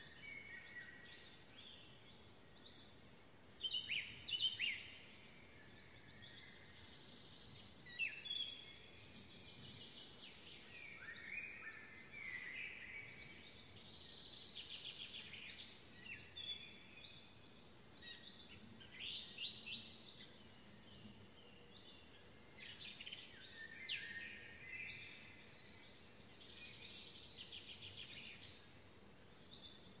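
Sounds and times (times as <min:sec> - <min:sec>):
songbirds singing: 0:00.0 - 0:30.0.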